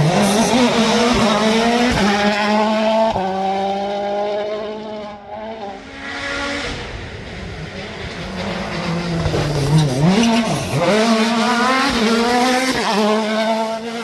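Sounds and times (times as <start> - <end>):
another car engine: 0.0 - 14.0
rally car engine accelerating: 0.0 - 14.0.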